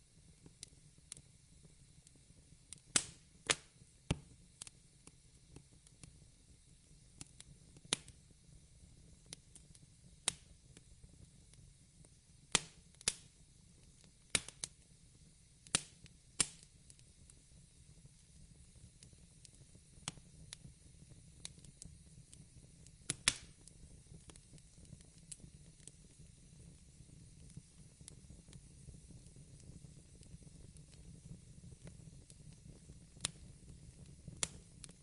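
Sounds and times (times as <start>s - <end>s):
faint steady hiss: 0.0s - 35.0s
fireplace crackling pops: 0.0s - 35.0s.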